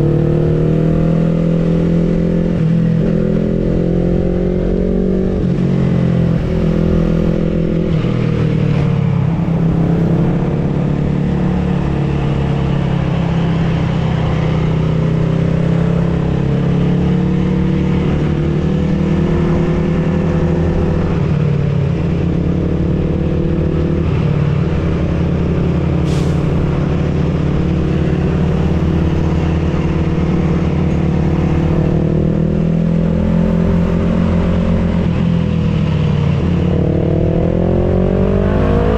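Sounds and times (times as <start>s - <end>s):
motor vehicle engine running: 0.0s - 38.9s.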